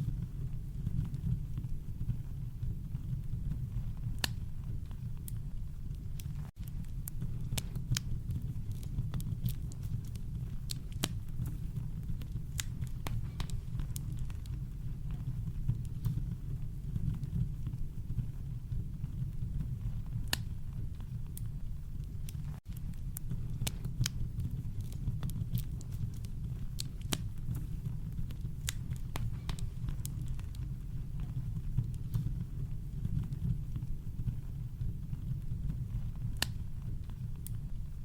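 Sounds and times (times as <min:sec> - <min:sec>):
campfire crackling: 0:00.0 - 0:38.0.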